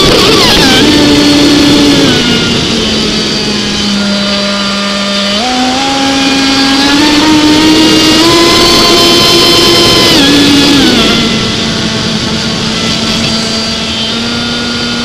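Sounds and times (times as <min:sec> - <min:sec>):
electric boat motor whining: 0:00.0 - 0:15.0
hull rushing on water: 0:00.0 - 0:15.0.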